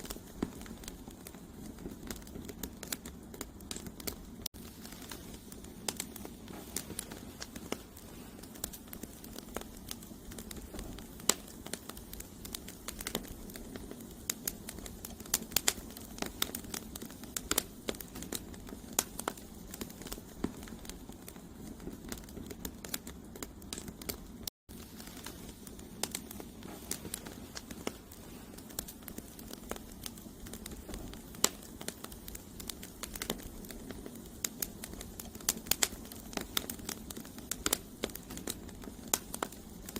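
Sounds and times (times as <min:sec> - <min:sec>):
logs crackling and popping: 0:00.0 - 0:39.9
low rustle of flames: 0:00.0 - 0:39.9.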